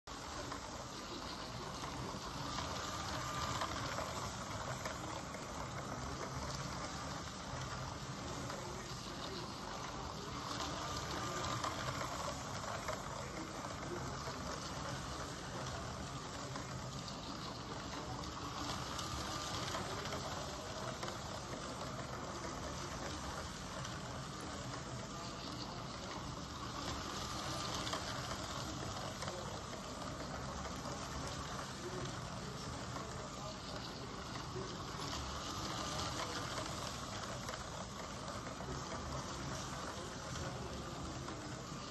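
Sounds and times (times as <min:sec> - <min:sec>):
plastic wheels rattling on track: 0:00.0 - 0:41.9
toy train motor whirring: 0:00.0 - 0:41.9.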